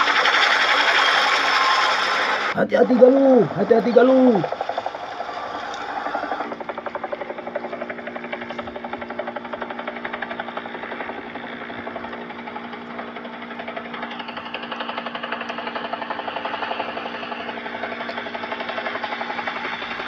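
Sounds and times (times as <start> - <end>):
engine hum: 0.0 - 20.0
helicopter rotor chopping: 0.0 - 20.0.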